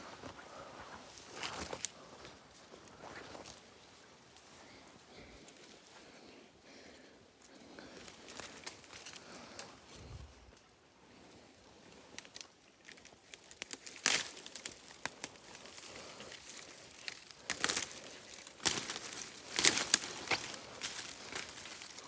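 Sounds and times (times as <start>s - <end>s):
dry leaves and twigs crackling: 0.0s - 22.0s.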